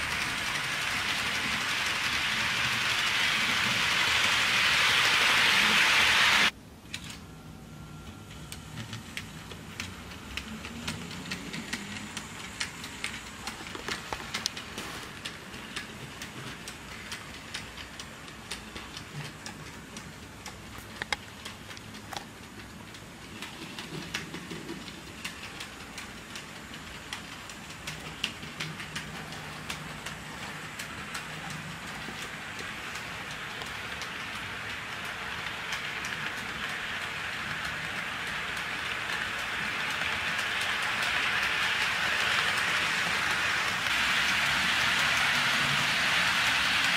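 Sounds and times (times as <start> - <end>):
model train wheels clicking: 0.0 - 7.2, 8.0 - 46.9
faint motor hum: 6.4 - 46.9.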